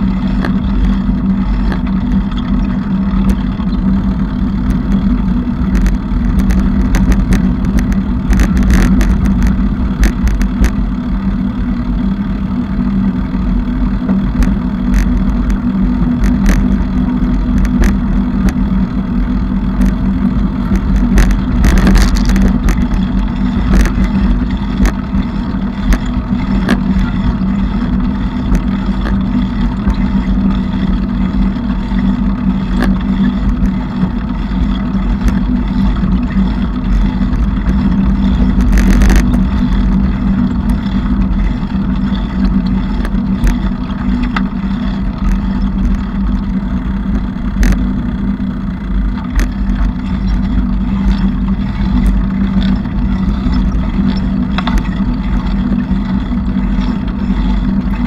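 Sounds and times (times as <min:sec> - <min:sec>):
bicycle rattles and clicks: 0:00.0 - 0:58.0
bicycle riding rumble: 0:00.0 - 0:58.0.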